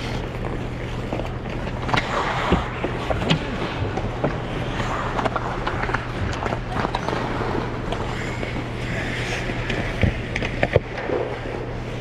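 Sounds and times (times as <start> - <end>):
ice skates scraping on ice: 0.0 - 12.0
steady low hum: 0.0 - 12.0.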